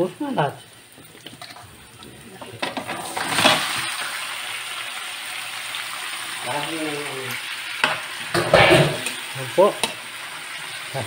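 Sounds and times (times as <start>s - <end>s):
fish sizzling in hot pan: 0.0s - 11.0s.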